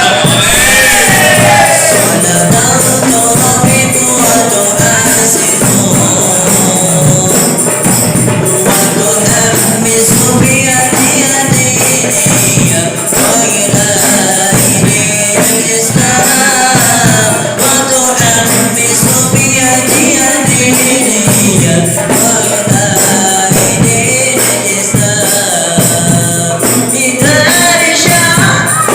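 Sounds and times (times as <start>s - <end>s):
hand percussion with jingles: 0.0s - 28.9s
high singing voice: 0.0s - 28.9s.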